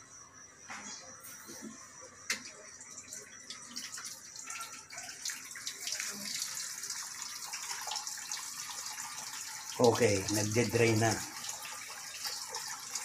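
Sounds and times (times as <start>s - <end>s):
washing machine draining water: 2.4s - 13.0s.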